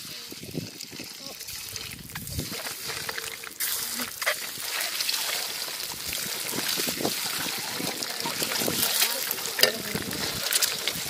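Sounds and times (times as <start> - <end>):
eggs sizzling in hot oil: 0.0 - 11.0.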